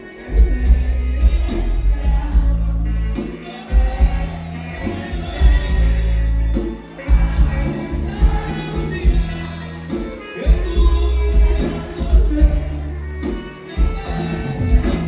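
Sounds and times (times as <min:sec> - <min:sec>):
live band music: 0:00.0 - 0:15.0
person singing: 0:00.0 - 0:15.0
heavy bass line: 0:00.2 - 0:15.0.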